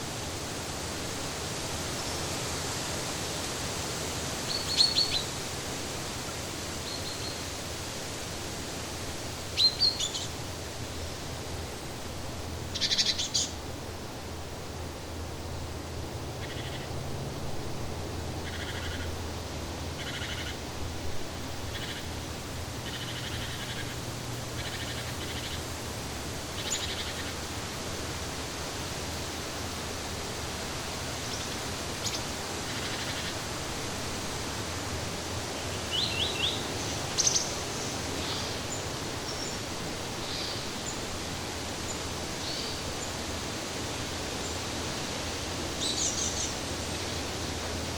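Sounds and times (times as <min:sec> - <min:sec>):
steady hiss: 0:00.0 - 0:47.9.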